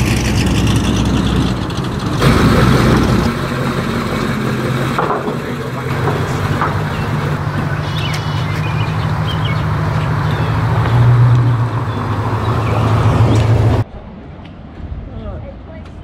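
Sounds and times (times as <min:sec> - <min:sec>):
car engines driving past: 0:00.0 - 0:15.2.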